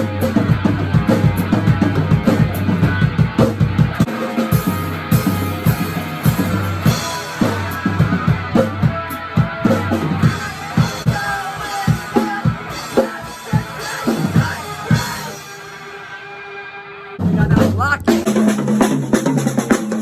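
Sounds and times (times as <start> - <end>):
rock drum beat: 0.0 - 16.4, 17.2 - 20.0
guitar and bass: 0.0 - 18.2.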